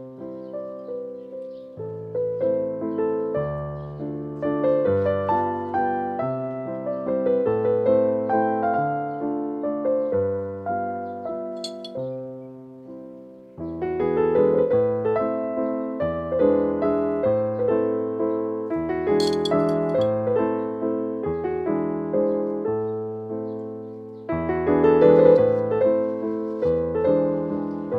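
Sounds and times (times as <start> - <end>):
gentle piano music: 0.0 - 27.9.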